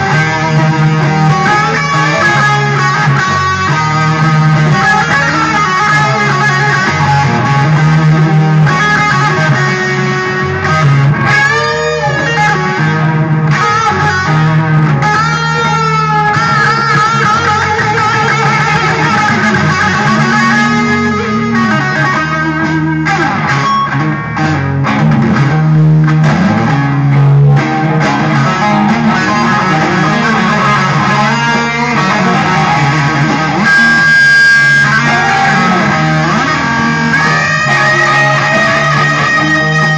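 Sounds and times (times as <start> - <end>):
bass line: 0.0 - 39.9
electric guitar bending notes: 0.0 - 39.9.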